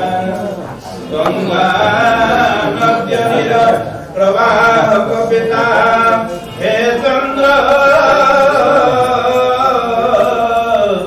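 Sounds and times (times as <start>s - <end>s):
man chanting a hymn: 0.0s - 11.0s.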